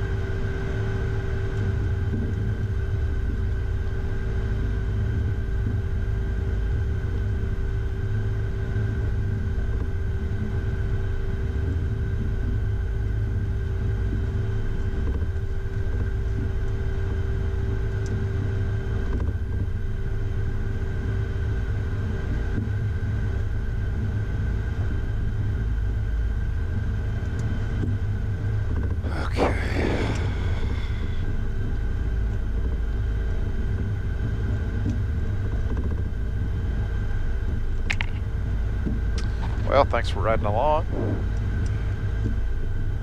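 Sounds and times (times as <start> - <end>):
engine whine tones: 0.0 - 43.0
jet cockpit low rumble: 0.0 - 43.0.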